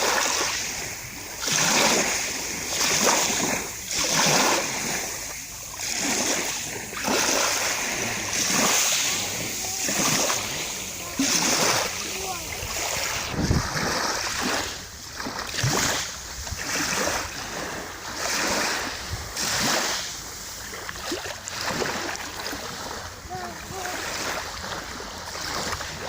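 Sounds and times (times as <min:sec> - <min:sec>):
small waves washing ashore: 0:00.0 - 0:26.0.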